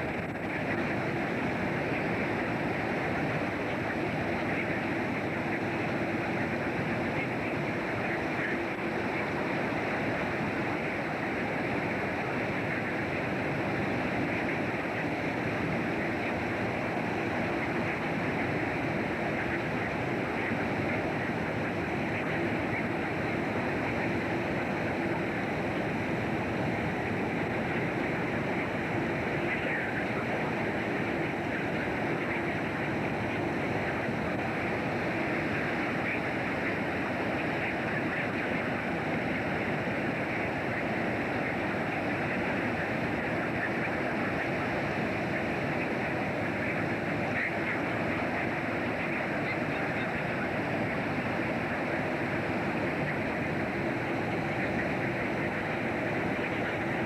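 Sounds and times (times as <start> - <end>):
boat engine drone: 0.0 - 57.0
low steady hum: 0.0 - 57.0.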